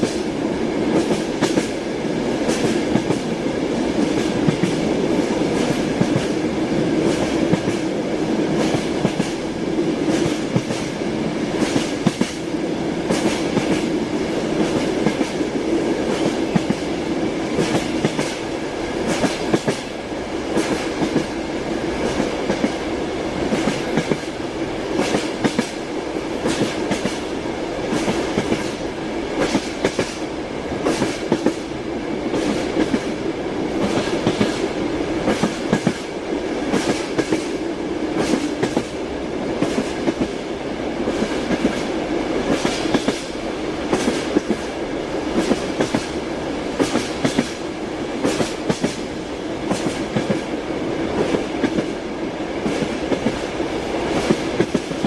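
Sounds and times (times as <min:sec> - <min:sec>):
train wheels clattering: 0:00.9 - 0:07.9, 0:08.5 - 0:18.4, 0:19.0 - 0:21.4, 0:22.0 - 0:31.7, 0:32.3 - 0:36.1, 0:36.7 - 0:39.0, 0:41.1 - 0:50.6, 0:52.6 - 0:55.0.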